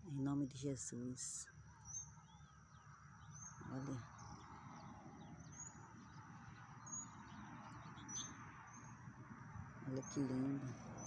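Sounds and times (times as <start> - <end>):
faint birdsong chirps: 0.0 - 11.0.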